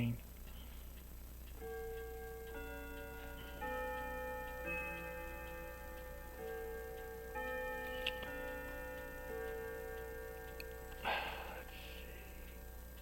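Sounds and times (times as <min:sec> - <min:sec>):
music of sustained chords: 0:01.6 - 0:13.0.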